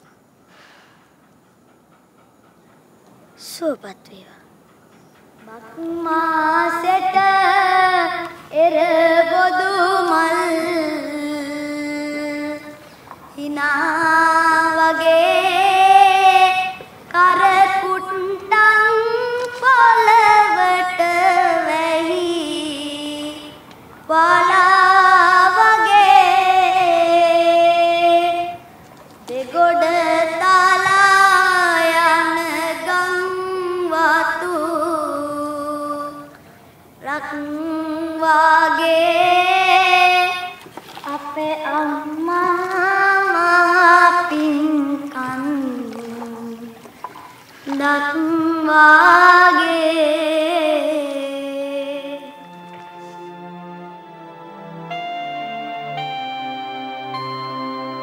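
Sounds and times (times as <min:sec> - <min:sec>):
woman singing slow song: 0:05.4 - 0:53.6.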